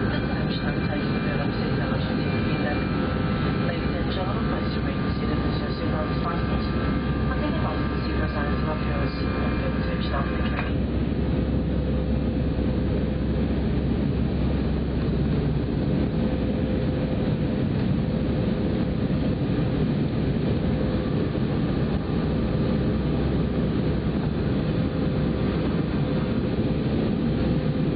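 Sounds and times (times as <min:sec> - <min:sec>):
faint steady hum: 0:00.0 - 0:27.9
jet engines roaring: 0:00.0 - 0:27.9.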